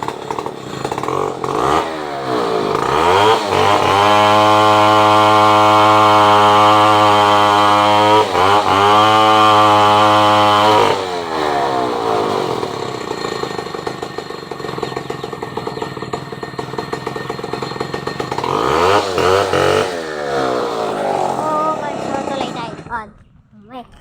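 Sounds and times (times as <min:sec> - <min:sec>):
chainsaw engine revving: 0:00.0 - 0:23.2.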